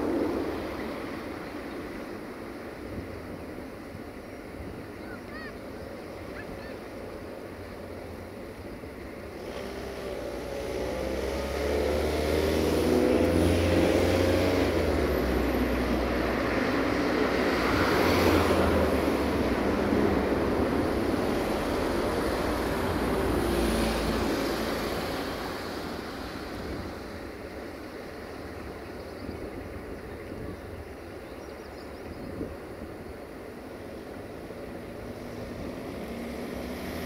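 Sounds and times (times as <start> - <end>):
train passing drone: 0.0 - 37.0.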